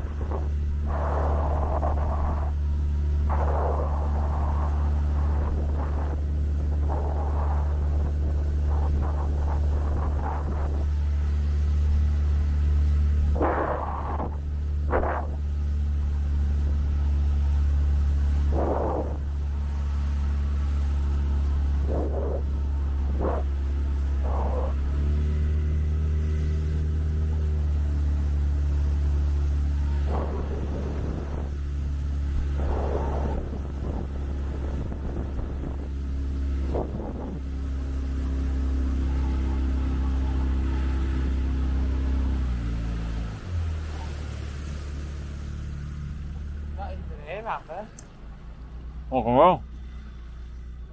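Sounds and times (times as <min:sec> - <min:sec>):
vehicle engine rumbling: 0:00.0 - 0:50.9.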